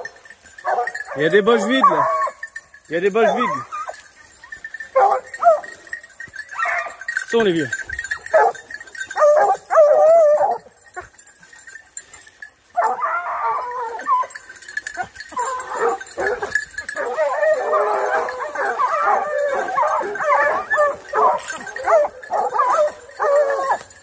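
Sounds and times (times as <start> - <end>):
hounds baying: 0.0 - 24.0.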